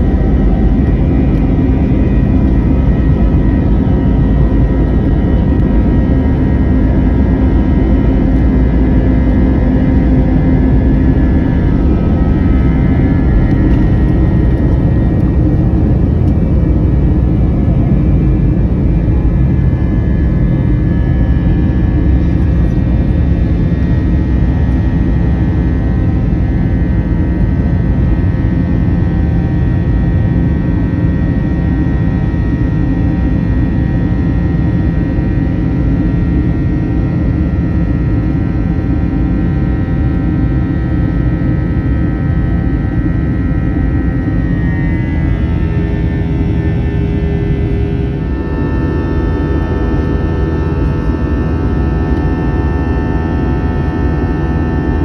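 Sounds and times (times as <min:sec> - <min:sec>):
jet engine roar with fan whine: 0:00.0 - 0:55.0.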